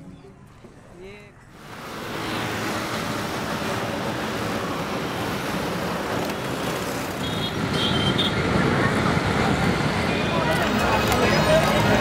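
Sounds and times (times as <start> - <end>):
road traffic on a bridge: 0.0 - 12.0.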